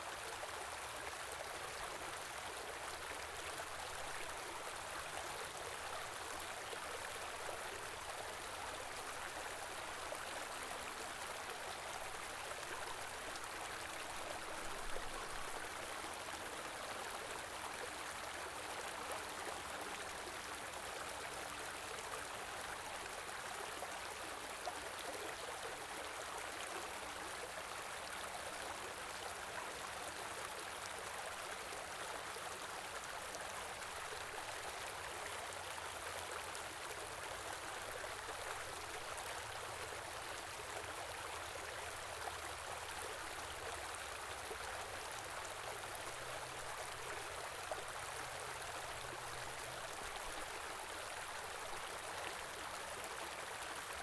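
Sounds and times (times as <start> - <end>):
stream rushing and babbling: 0.0 - 54.0.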